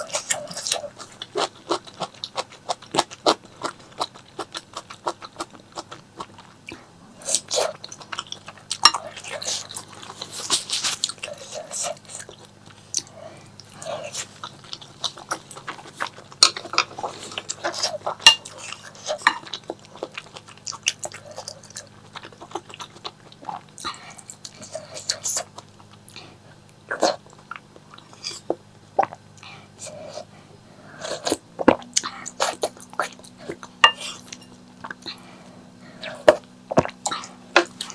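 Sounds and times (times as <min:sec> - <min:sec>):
chewing and biting food: 0:00.0 - 0:37.9.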